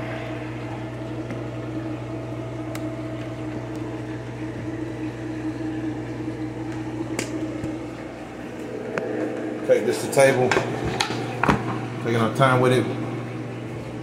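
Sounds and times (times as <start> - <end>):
low mechanical motor hum: 0.0 - 14.0.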